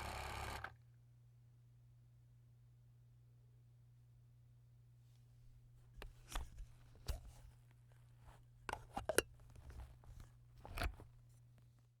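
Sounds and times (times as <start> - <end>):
faint low hum: 0.5 - 11.9.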